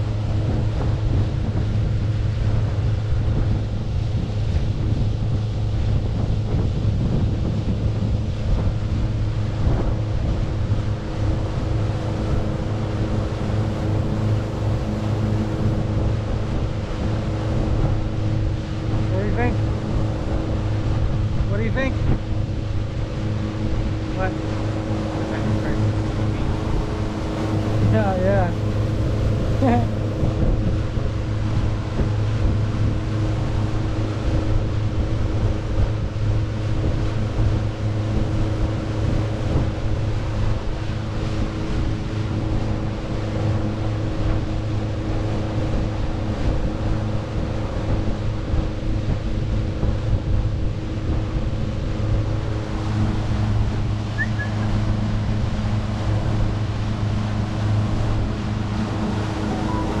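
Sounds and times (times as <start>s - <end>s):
boat motor humming: 0.0s - 60.0s
rushing wind: 0.0s - 60.0s
water noise: 0.0s - 60.0s.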